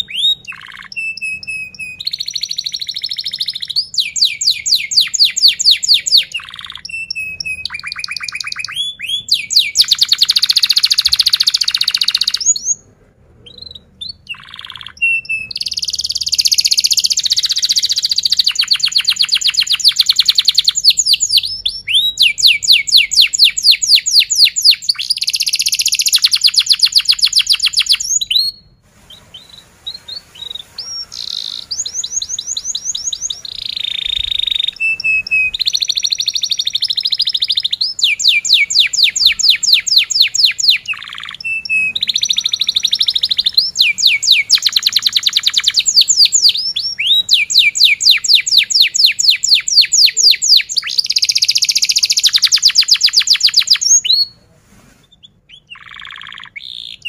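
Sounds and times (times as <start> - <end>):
canary singing trills: 0.0 - 54.4, 55.1 - 57.0.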